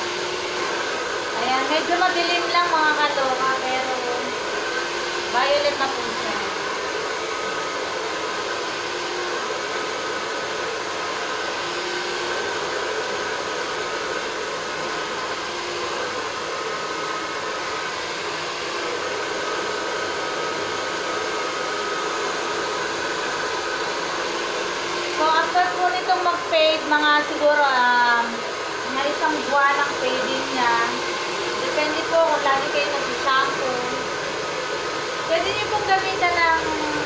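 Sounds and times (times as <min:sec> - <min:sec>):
hair dryer blowing: 0:00.0 - 0:37.0.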